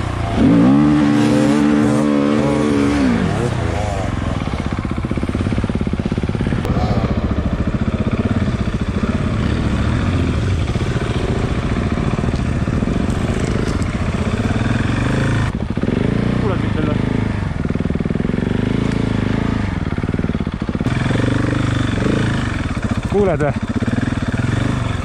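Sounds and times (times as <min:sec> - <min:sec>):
motorcycle engine running at low revs: 0:00.0 - 0:25.0.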